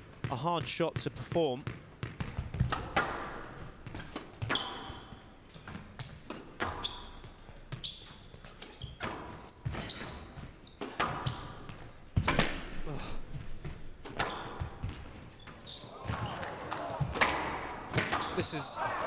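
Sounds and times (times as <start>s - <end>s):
shoes squeaking on court floor: 0.1s - 18.6s
squash ball hitting rackets and walls: 1.6s - 18.4s.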